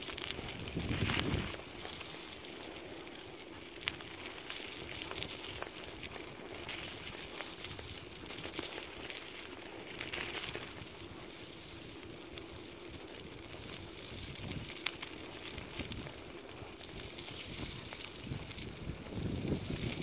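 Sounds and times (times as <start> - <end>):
wheels rolling over gravel: 0.0 - 20.0.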